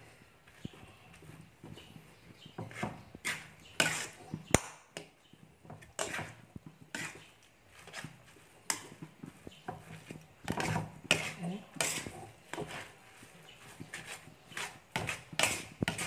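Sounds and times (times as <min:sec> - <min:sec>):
metal spatula scraping a wok: 0:00.5 - 0:04.5, 0:05.6 - 0:16.0.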